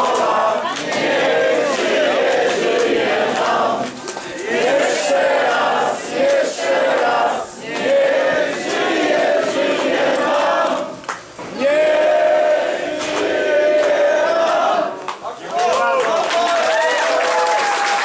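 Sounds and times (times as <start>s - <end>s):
crowd singing together: 0.0s - 15.2s.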